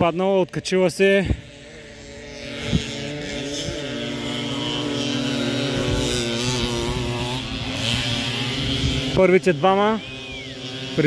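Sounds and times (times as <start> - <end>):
motocross engines droning: 0.0 - 11.0.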